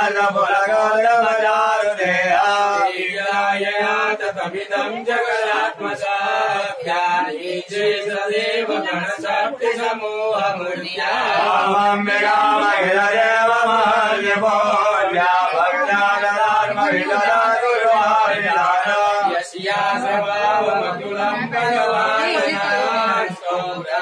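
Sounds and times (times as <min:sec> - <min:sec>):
mantras chanted: 0:00.0 - 0:24.0.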